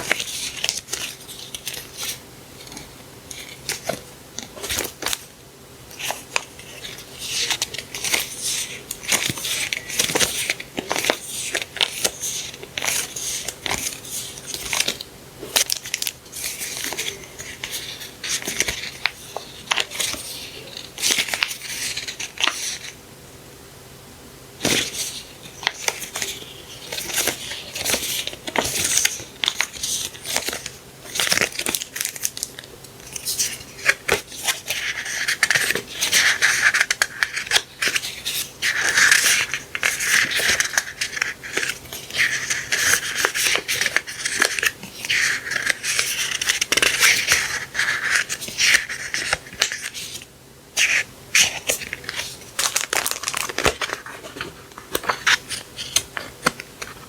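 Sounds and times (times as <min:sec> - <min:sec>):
paper rustling: 0:00.0 - 0:05.3, 0:05.9 - 0:23.0, 0:24.6 - 0:57.0.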